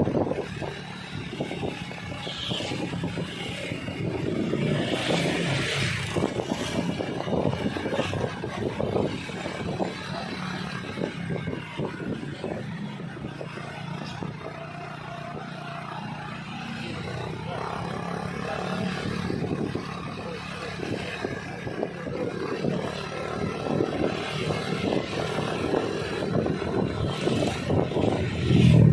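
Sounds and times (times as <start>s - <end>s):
road and traffic rumble: 0.0s - 28.9s.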